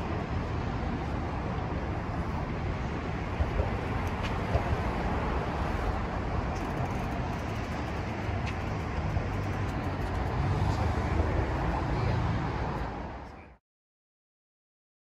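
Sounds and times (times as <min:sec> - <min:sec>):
city traffic rumble: 0:00.0 - 0:13.6.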